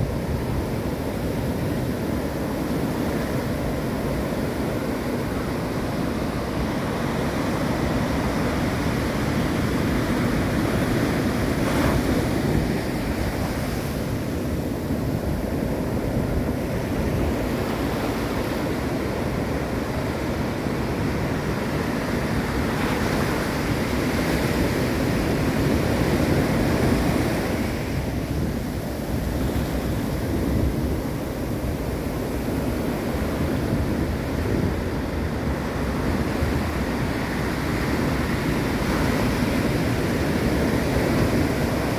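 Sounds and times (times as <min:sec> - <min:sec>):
ocean surf: 0:00.0 - 0:41.9
wind buffeting microphone: 0:00.0 - 0:41.9.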